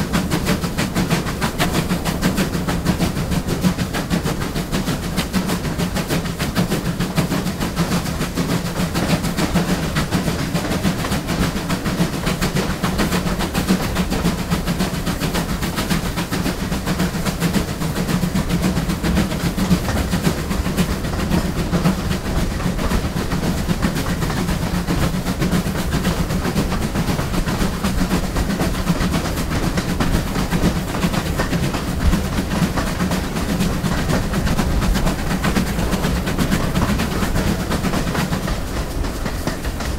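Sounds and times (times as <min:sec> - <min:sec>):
steam locomotive rumble: 0:00.0 - 0:39.9
wheels clattering on rails: 0:00.0 - 0:39.9.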